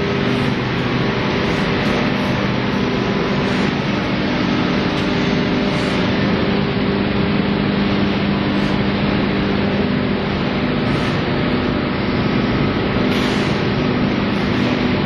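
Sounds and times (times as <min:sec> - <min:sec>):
machine humming with hiss: 0:00.0 - 0:15.0.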